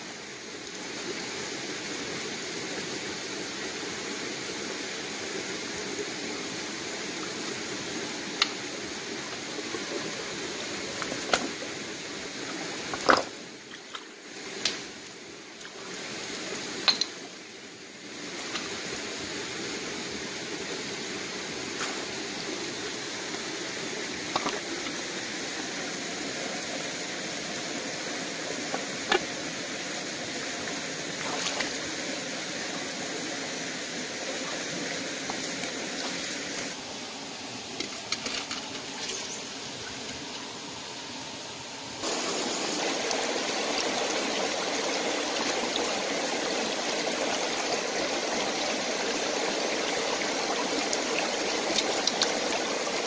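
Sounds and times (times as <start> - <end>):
rocky stream running: 0.0 - 53.0.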